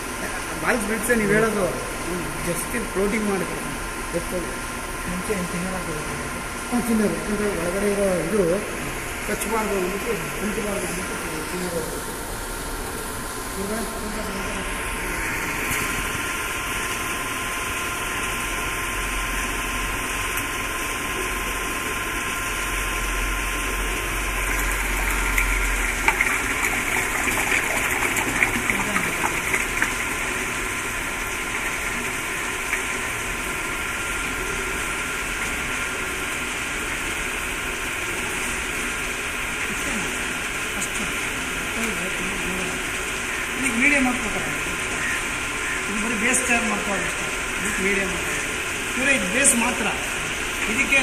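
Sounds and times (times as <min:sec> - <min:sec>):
roller mill motor humming: 0:00.0 - 0:51.0.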